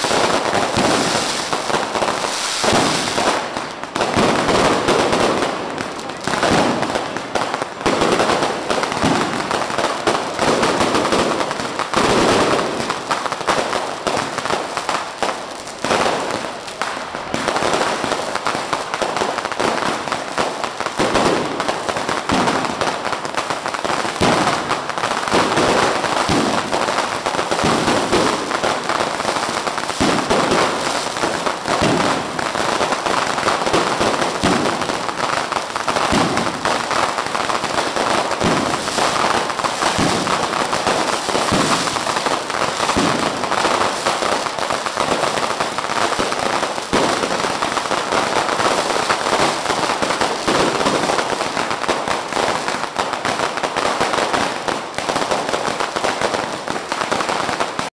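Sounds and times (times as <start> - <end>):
fireworks crackling and banging: 0.0 - 57.9.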